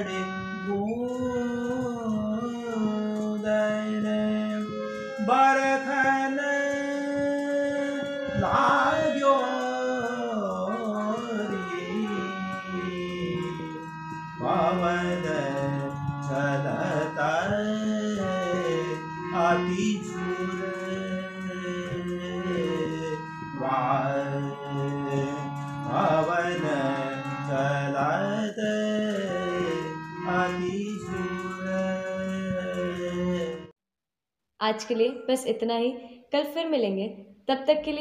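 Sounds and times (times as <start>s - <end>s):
instrumental drone: 0.0s - 33.6s
light percussion: 0.0s - 33.7s
person singing ornamented melody: 0.0s - 33.7s.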